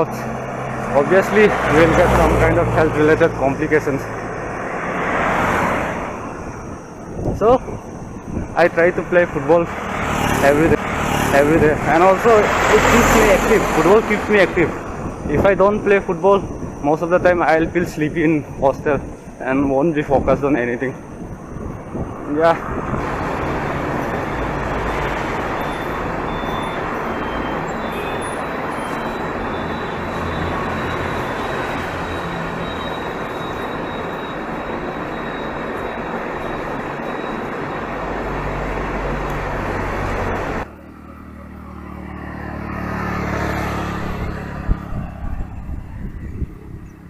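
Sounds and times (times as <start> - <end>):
motor vehicle passing: 0.0 - 7.1, 8.1 - 15.6, 21.4 - 47.0
wind and road noise: 0.0 - 47.0.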